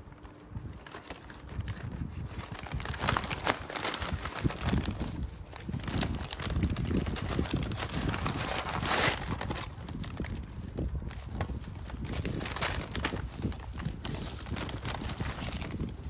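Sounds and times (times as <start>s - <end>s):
fries rattling in paper bag: 0.0s - 16.0s
paper bag crinkling: 0.0s - 16.0s.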